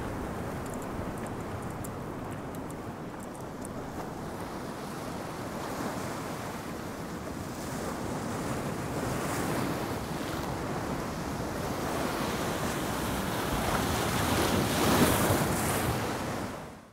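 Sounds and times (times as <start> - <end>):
wind buffeting microphone: 0.0 - 15.8.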